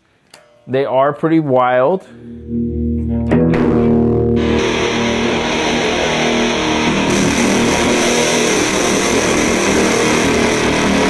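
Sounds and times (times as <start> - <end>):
distorted electric guitar chord: 2.1 - 11.0.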